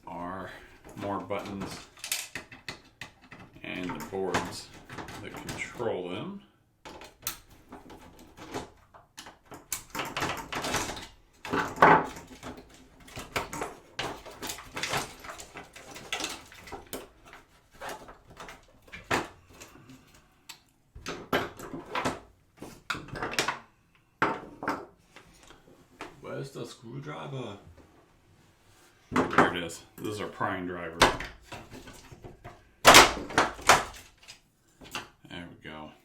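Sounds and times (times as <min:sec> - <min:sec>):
plastic parts clicking and rattling: 0:00.6 - 0:06.0, 0:06.8 - 0:26.1, 0:30.9 - 0:35.2.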